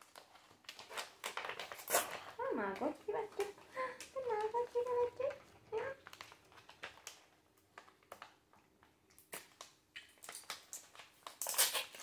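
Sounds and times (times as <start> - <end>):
plastic pouch crinkling: 0.0 - 12.0.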